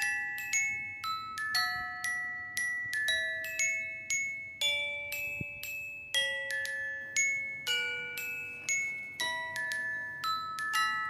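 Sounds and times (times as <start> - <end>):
slow bell-like melody: 0.0 - 11.0.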